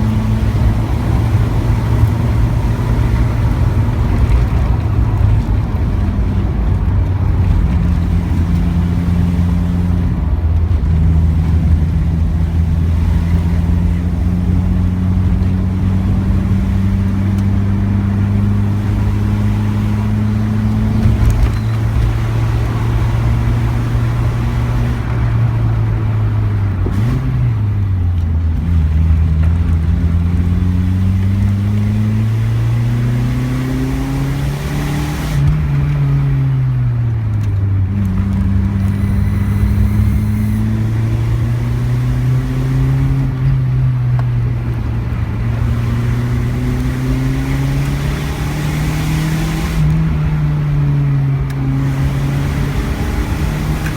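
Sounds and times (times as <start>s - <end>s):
car engine droning hum: 0.0s - 53.9s
low road rumble: 0.0s - 53.9s.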